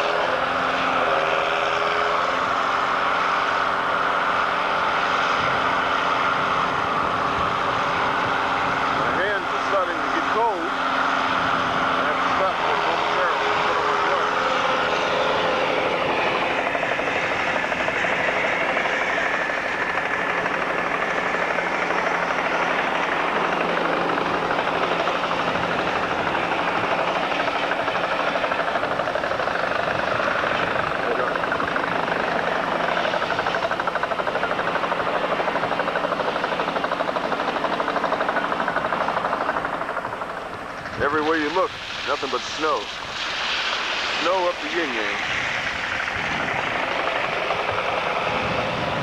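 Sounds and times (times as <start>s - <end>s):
mechanical drone with flutter: 0.0s - 49.0s.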